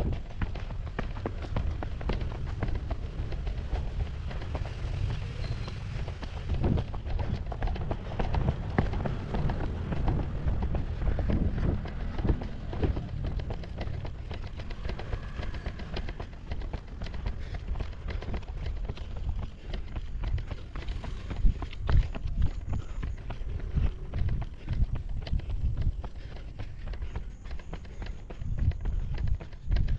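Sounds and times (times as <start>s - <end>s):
running footsteps on pavement: 0.0s - 29.9s
wind buffeting microphone: 0.0s - 29.9s.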